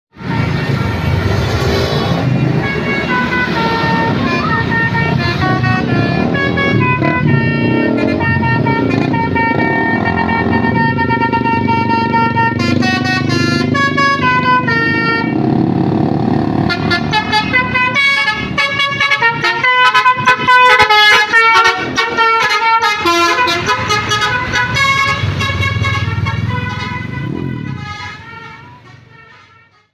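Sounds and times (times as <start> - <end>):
bus melody horn: 2.1 - 15.7, 16.4 - 29.9.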